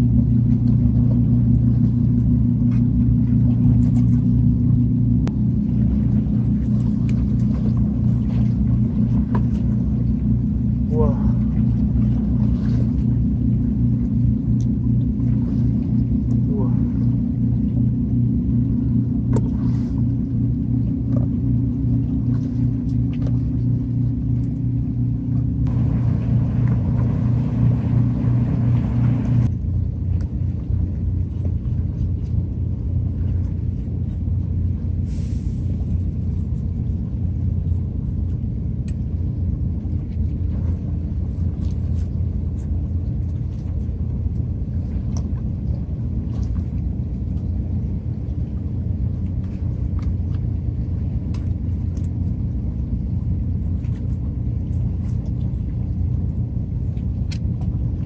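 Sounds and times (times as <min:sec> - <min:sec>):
low engine drone: 0:00.0 - 0:58.0.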